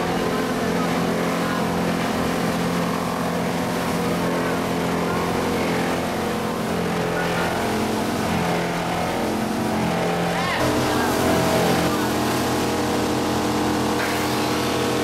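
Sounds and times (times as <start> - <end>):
industrial machinery drone: 0.0 - 15.0.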